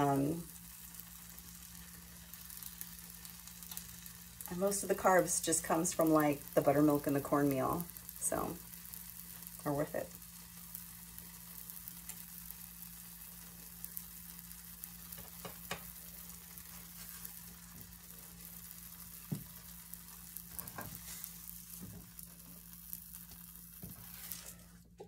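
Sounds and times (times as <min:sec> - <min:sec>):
pancakes sizzling in skillet: 0:00.0 - 0:25.0.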